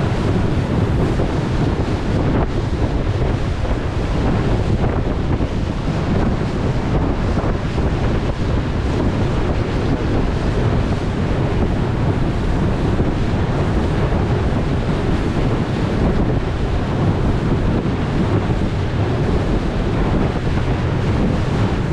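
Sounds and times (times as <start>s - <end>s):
water rushing beneath boat: 0.0s - 21.9s
wind noise on microphone: 0.0s - 21.9s.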